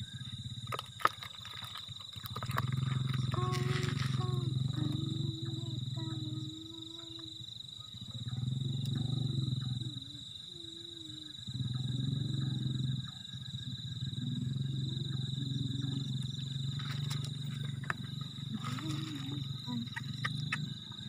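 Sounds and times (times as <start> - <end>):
frogs croaking: 0.0 - 21.0
high-pitched insect trill: 0.0 - 21.0.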